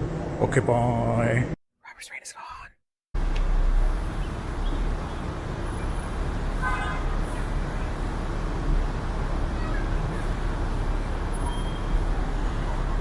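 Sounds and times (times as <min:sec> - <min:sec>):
city traffic rumble: 0:00.0 - 0:01.6, 0:03.2 - 0:13.0.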